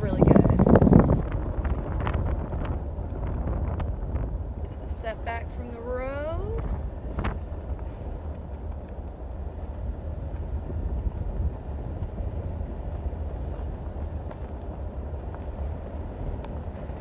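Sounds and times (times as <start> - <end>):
car driving on road: 0.0 - 17.0.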